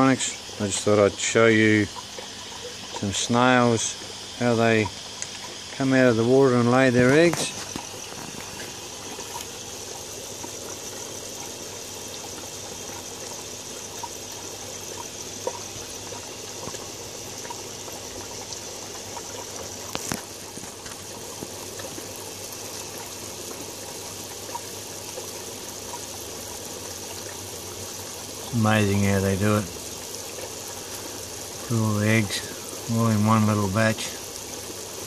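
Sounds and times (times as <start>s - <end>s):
water pouring into tank: 0.0s - 35.0s.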